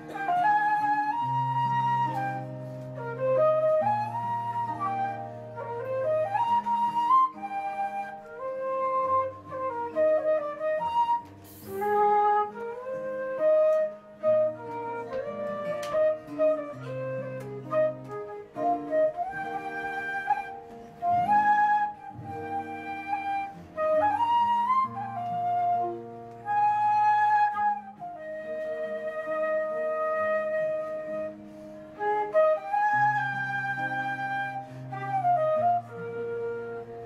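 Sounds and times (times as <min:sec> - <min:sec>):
fingerpicked acoustic guitar: 0:00.0 - 0:37.0
wooden flute melody: 0:00.0 - 0:37.0.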